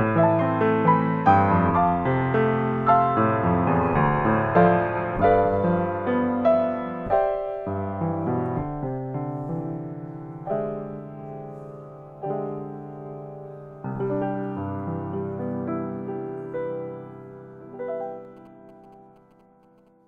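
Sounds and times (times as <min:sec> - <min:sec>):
grand piano melody: 0:00.0 - 0:20.0.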